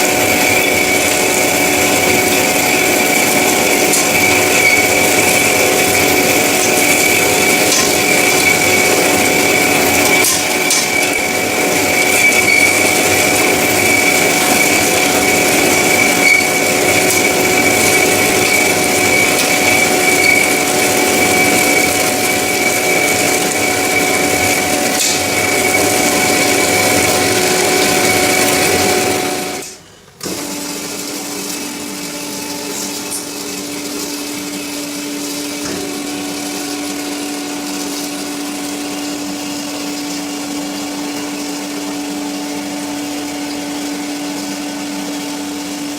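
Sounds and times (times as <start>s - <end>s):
band saw whining: 0.0s - 45.9s
steady machine hum: 0.0s - 45.9s.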